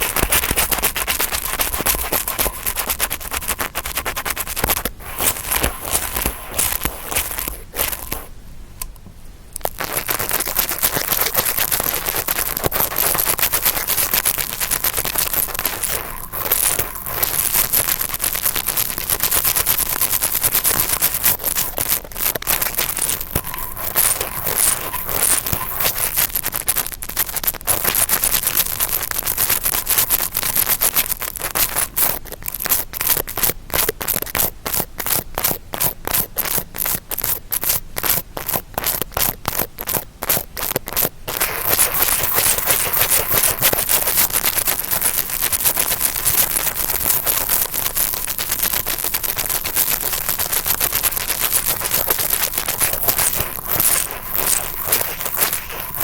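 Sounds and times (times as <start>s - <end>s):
brush scratching: 0.0s - 8.3s, 9.6s - 33.0s, 40.3s - 56.0s.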